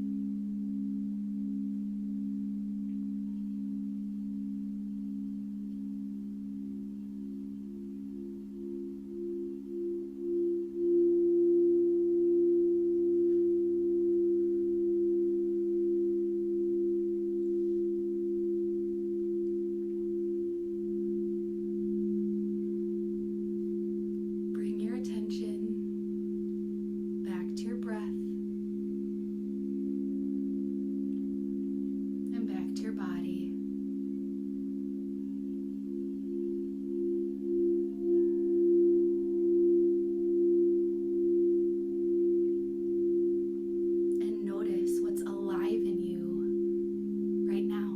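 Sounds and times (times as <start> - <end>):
singing bowls droning: 0.0 - 47.9.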